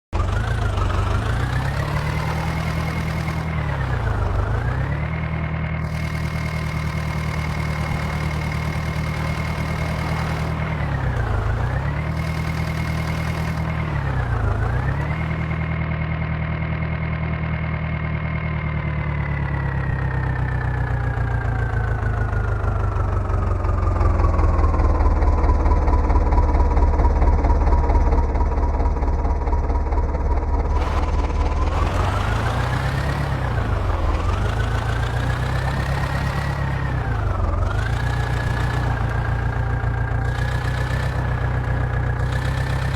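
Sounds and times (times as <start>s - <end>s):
diesel engine revving: 0.0s - 15.8s, 18.3s - 42.9s.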